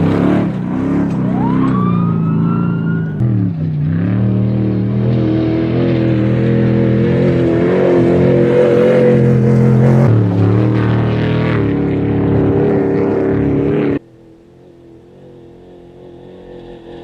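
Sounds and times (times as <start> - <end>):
race vehicle engine at full throttle: 0.0 - 17.0.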